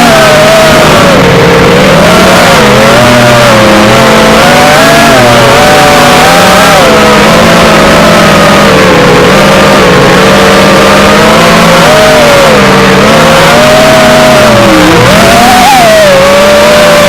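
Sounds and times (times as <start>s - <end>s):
loud rush of noise: 0.0s - 17.0s
quadcopter motors whining: 0.0s - 17.0s.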